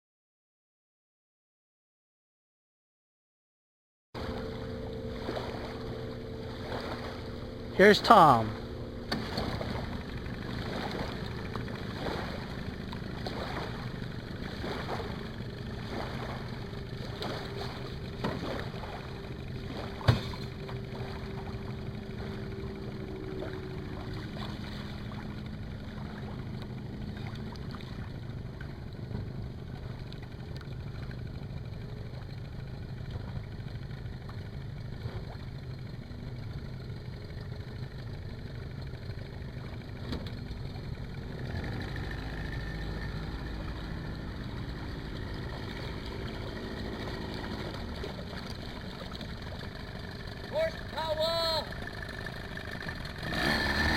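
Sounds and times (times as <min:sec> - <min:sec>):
outboard motor running: 0:04.2 - 0:53.9.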